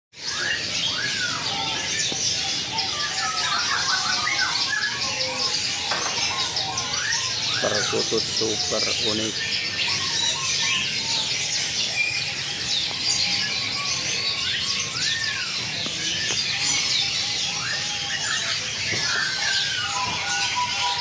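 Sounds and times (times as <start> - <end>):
birds chirping and twittering: 0.1 - 21.0.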